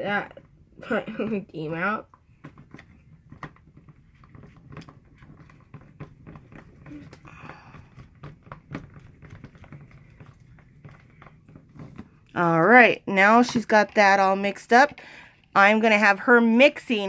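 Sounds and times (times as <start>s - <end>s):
spoon stirring slime: 0.0s - 17.0s.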